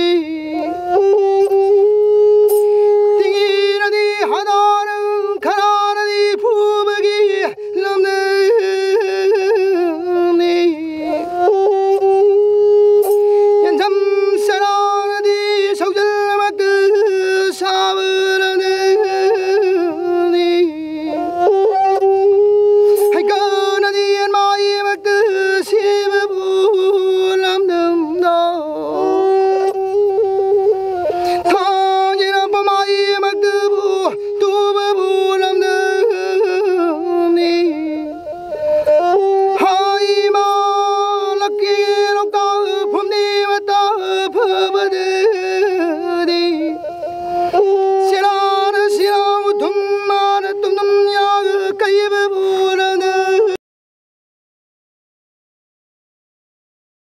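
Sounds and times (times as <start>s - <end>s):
bowed fiddle melody: 0.0s - 53.6s.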